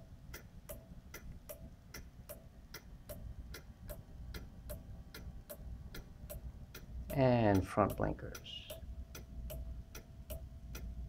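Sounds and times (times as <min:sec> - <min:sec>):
turn-signal flasher ticking: 0:00.0 - 0:11.0.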